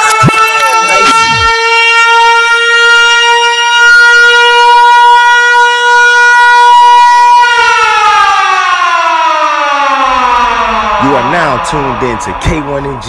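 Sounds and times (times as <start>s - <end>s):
siren-like tone sliding down: 0.0s - 13.0s.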